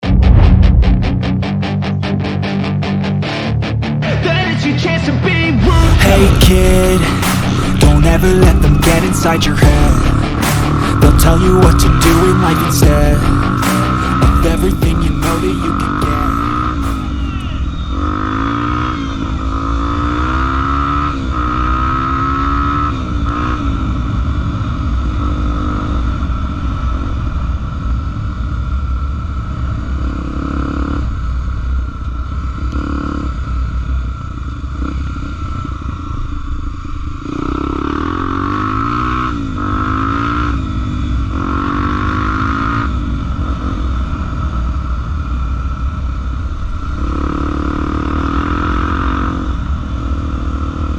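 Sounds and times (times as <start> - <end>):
motorcycle engine revving: 5.1 - 50.9.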